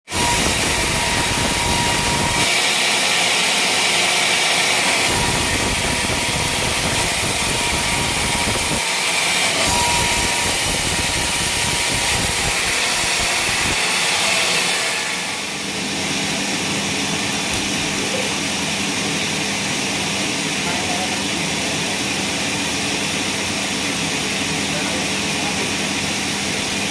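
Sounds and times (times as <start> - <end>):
sawmill saws cutting wood: 0.1 - 26.9.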